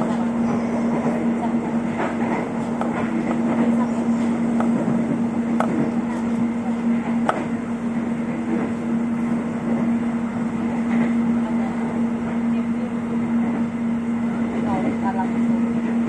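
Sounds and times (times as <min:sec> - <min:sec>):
electric train running: 0:00.0 - 0:16.0.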